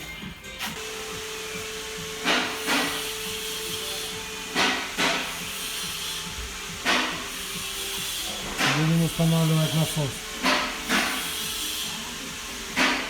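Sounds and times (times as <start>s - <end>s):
compressed air hiss blasts: 0.7s - 13.0s.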